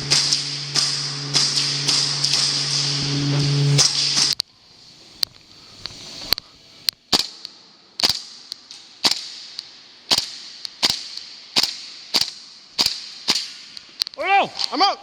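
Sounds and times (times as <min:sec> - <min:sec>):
airsoft gun shots: 0:00.0 - 0:04.4, 0:07.0 - 0:14.8.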